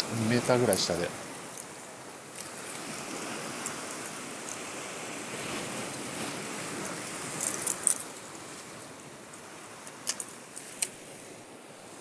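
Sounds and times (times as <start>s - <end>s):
surf breaking over rocks: 0.0s - 11.5s.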